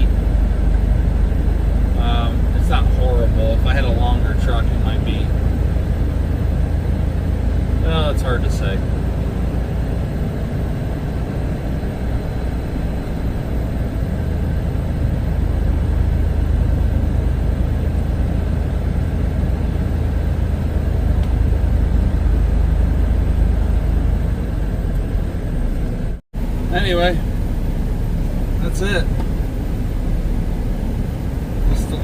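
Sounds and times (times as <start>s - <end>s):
truck engine rumble from cab: 0.0s - 32.0s.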